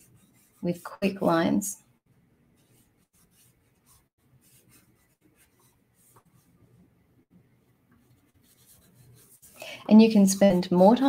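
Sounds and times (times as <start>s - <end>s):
pencil scratching on paper: 0.0s - 6.8s, 8.0s - 11.0s.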